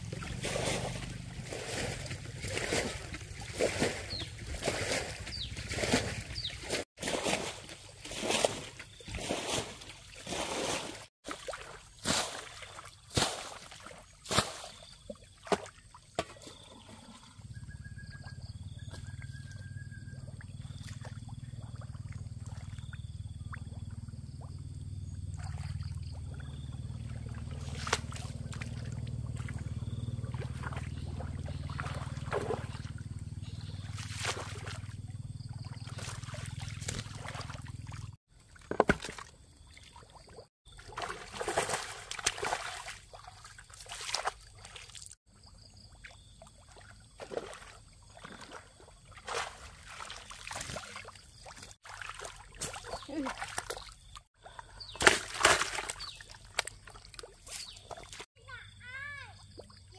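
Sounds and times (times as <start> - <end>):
pond water splashing: 0.0 - 59.9.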